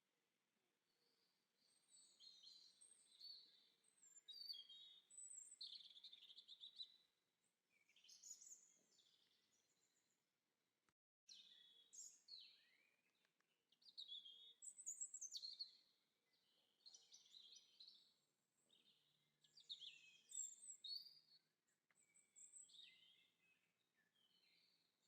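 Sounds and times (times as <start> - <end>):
small birds chirping and trilling: 1.0 - 7.1, 7.7 - 10.0, 11.3 - 24.9.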